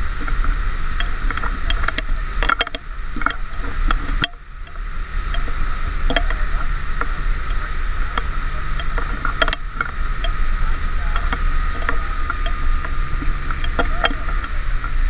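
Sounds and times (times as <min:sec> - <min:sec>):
boat engine running: 0:00.0 - 0:15.0
high whine: 0:00.0 - 0:15.0
rushing water and spray: 0:00.0 - 0:15.0.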